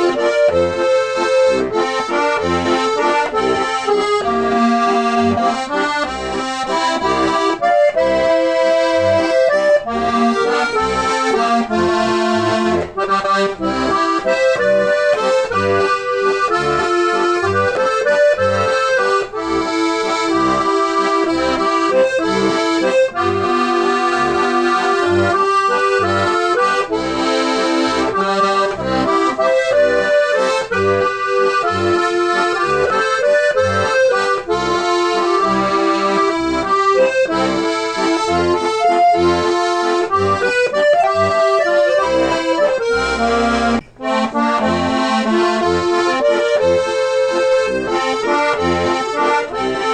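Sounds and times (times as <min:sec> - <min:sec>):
accordion playing a tune: 0:00.0 - 0:49.9.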